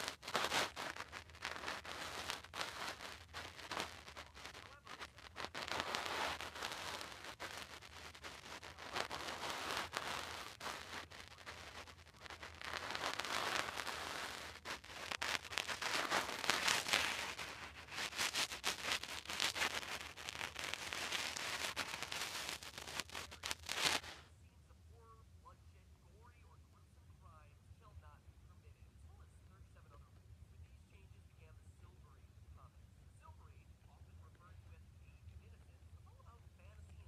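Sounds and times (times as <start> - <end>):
dense crackling rustling noise: 0.0 - 37.0.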